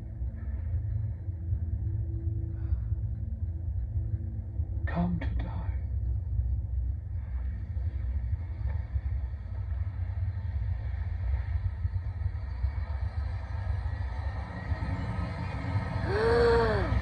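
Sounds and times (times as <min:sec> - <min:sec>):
deep rumble from tv soundtrack: 0:00.0 - 0:17.0.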